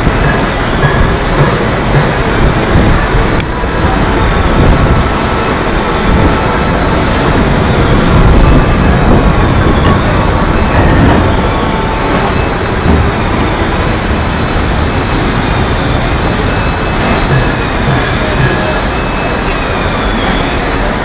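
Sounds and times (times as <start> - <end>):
rumbling machinery: 0.0 - 21.0.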